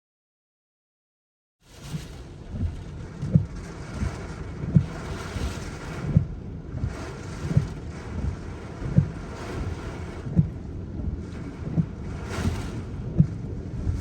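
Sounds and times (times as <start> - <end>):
rushing wind: 1.7 - 14.0.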